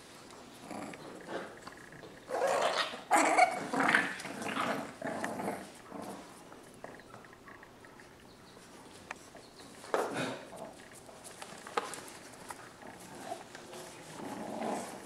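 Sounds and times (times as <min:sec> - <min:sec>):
puppies play-growling and barking: 0:00.0 - 0:15.0.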